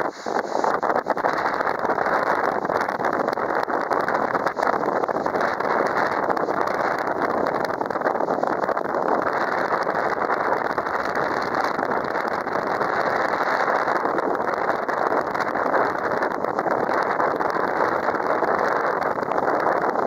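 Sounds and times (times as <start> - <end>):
choppy river water: 0.0 - 20.0
strong wind on microphone: 0.0 - 20.0.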